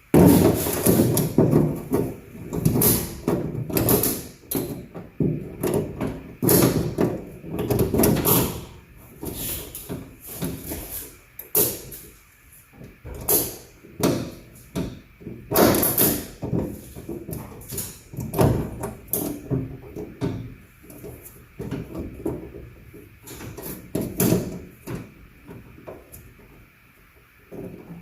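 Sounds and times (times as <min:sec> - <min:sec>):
metal parts knocking and clanking: 0:00.1 - 0:12.0, 0:13.0 - 0:26.1.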